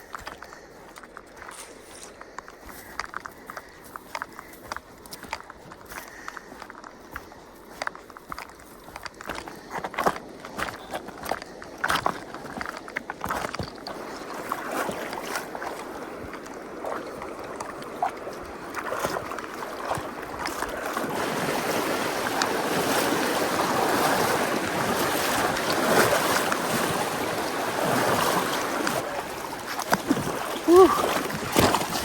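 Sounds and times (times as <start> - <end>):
footsteps on a trail: 0.0 - 32.0
rushing river water: 0.0 - 32.0.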